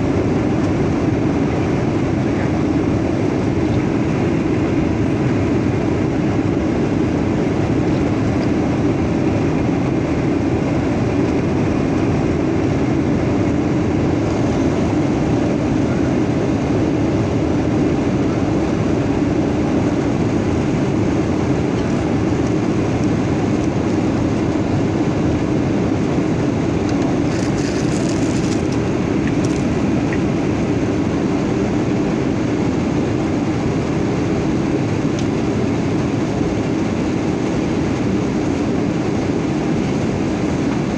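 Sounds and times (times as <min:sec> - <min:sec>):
jet engine drone in cabin: 0:00.0 - 0:40.9.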